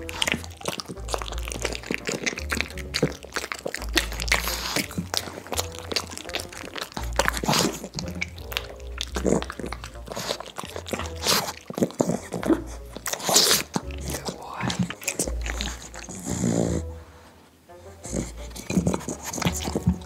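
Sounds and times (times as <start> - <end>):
wet mouth smacks: 0.0 - 16.8, 18.1 - 20.0
dogs crunching food: 0.0 - 20.0.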